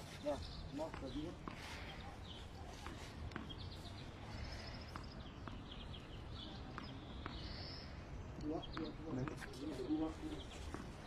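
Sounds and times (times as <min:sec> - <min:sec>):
low steady background noise: 0:00.0 - 0:11.0
small birds chirping: 0:00.0 - 0:11.0.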